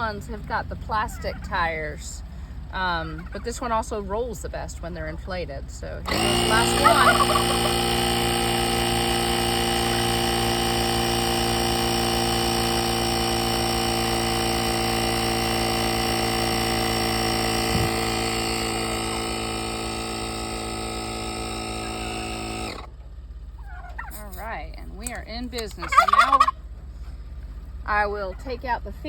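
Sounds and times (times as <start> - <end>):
tire inflator compressor running: 0.0 - 29.0.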